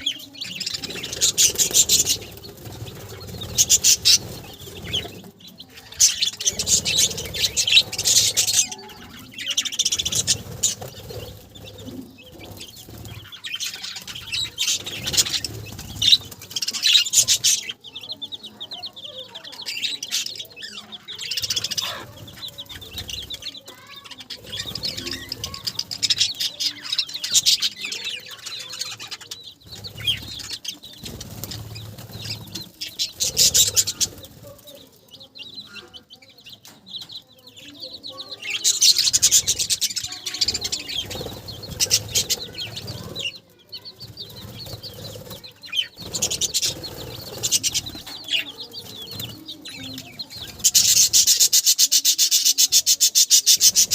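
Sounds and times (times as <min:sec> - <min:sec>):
wings fluttering: 0:00.0 - 0:17.7, 0:19.8 - 0:35.0, 0:38.4 - 0:53.9
budgerigars chirping and chattering: 0:00.0 - 0:53.9.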